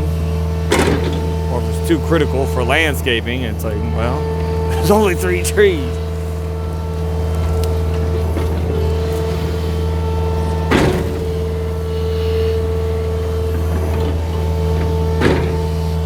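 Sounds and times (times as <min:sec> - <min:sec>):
diesel engine running: 0:00.0 - 0:16.0
steady whine: 0:00.8 - 0:16.0.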